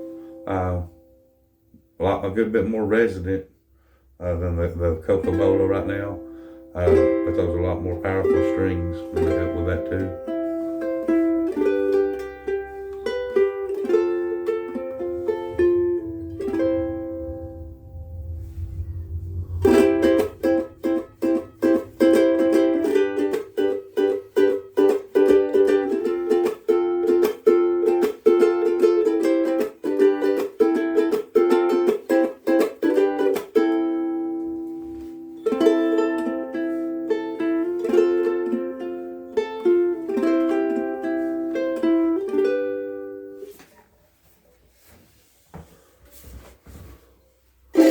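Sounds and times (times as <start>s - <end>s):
ukulele strumming: 5.1s - 43.6s.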